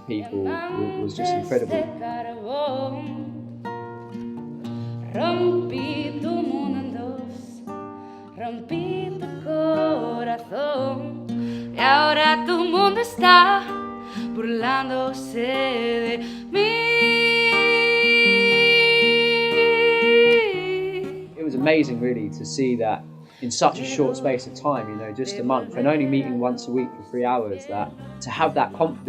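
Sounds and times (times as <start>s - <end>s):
person singing: 0.0s - 3.2s, 5.0s - 7.6s, 8.4s - 11.2s, 11.8s - 22.3s, 23.4s - 29.0s
plucked guitar: 0.0s - 29.0s.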